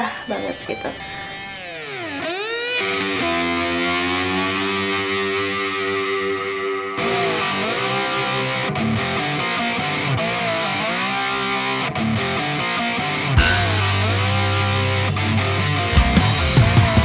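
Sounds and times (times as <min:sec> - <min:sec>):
distorted electric guitar rock music: 0:00.0 - 0:17.0.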